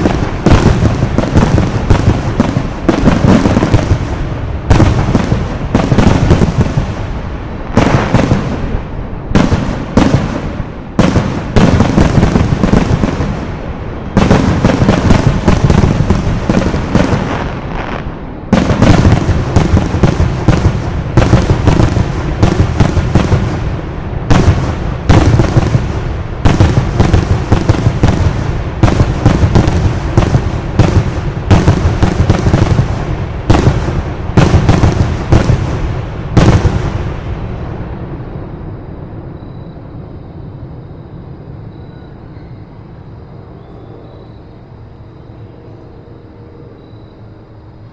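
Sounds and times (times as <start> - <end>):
fireworks booming: 0.0 - 40.0.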